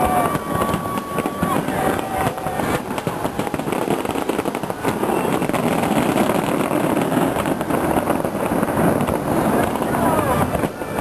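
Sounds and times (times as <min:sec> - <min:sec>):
fireworks bursting and crackling: 0:00.0 - 0:11.0
sharp firework bang: 0:00.0 - 0:11.0.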